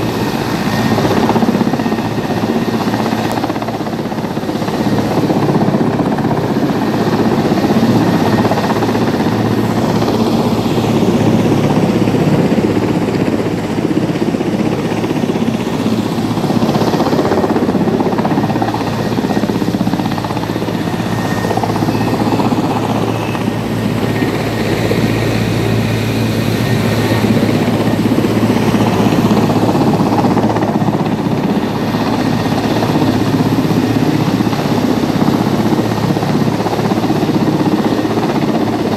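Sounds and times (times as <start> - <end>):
helicopter hovering: 0.0 - 38.9.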